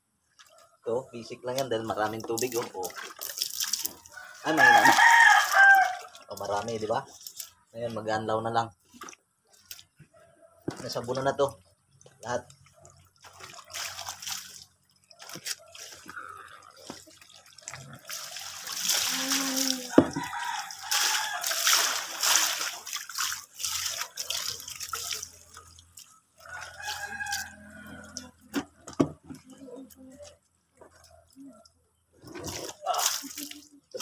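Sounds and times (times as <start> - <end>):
water splashing and sloshing: 0.1 - 34.0.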